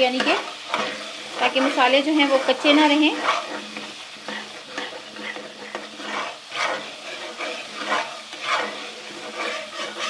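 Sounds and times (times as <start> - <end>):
food sizzling in hot oil: 0.0 - 10.0
spoon scraping a pan: 0.0 - 10.0.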